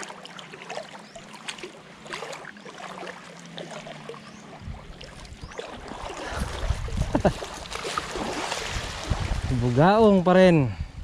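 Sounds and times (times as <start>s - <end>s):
water splashing at shore: 0.0s - 10.3s.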